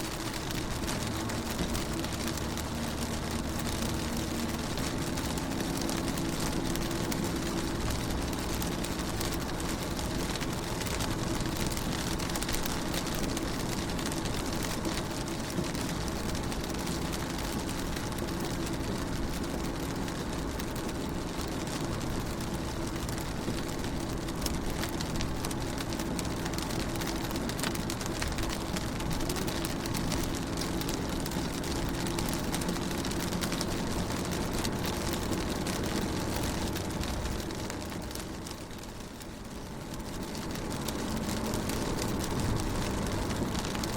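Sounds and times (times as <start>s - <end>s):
rain on a car window: 0.0s - 43.9s.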